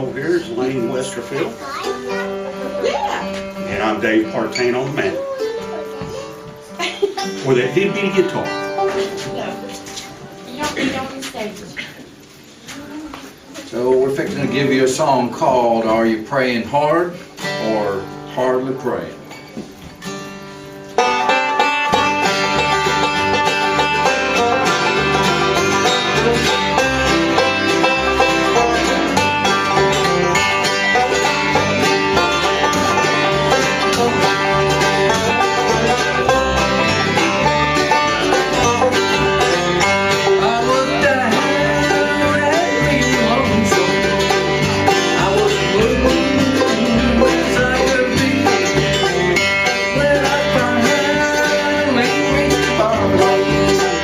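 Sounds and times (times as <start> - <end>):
bluegrass band playing: 0.0 - 54.0.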